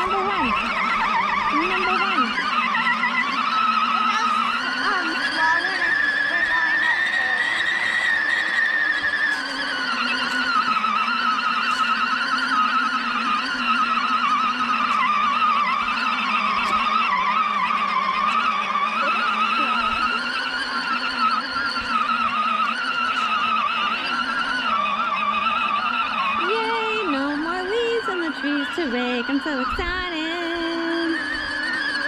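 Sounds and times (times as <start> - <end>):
electric toy motor whining: 0.0 - 32.0.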